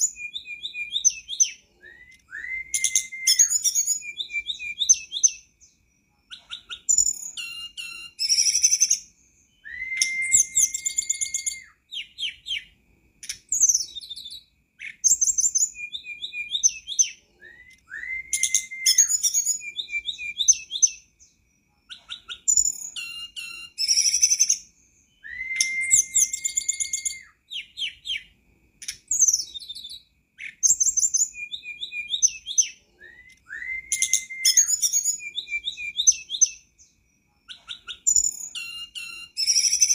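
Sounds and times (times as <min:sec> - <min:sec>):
bird chirps and twittering: 0:00.0 - 0:39.9
long clear bird whistle: 0:00.0 - 0:39.9.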